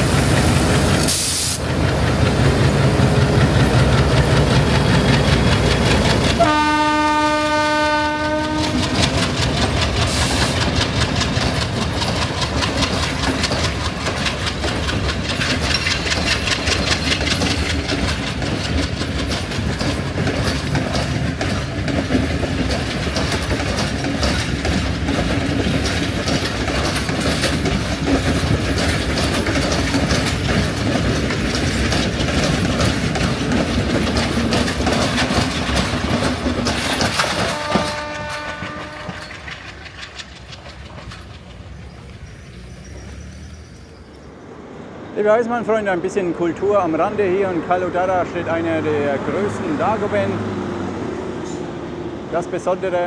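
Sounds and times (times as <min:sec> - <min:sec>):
train wheels clattering on rails: 0:00.0 - 0:44.4.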